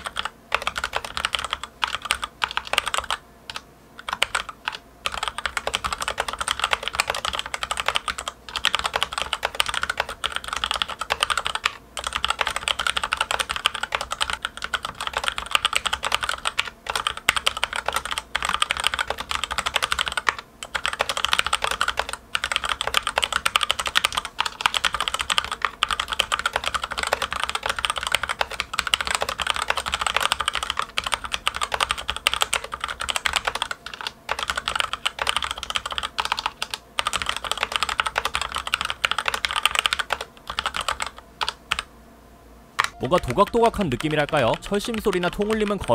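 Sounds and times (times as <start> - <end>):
fast typing on mechanical keyboard: 0.0 - 41.9, 42.8 - 45.9.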